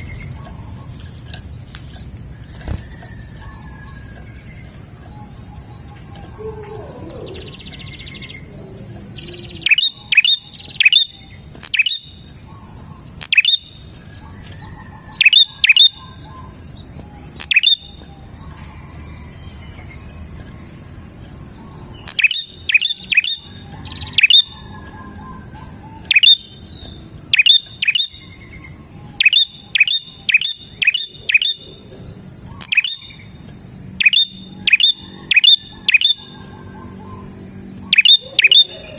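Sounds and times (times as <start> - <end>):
steady high-pitched hum: 0.0 - 38.9.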